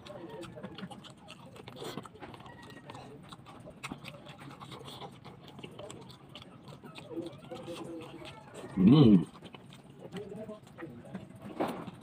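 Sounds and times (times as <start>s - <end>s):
chewing soft food: 0.0s - 12.0s.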